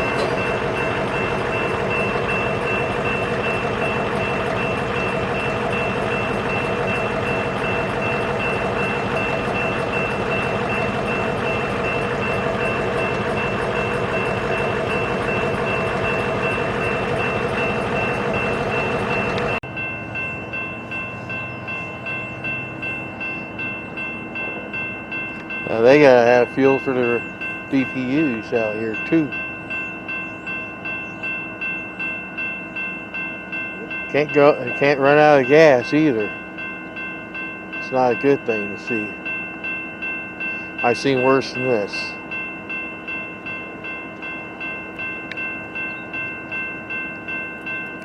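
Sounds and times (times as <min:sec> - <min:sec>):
diesel locomotive drone: 0:00.0 - 0:48.0.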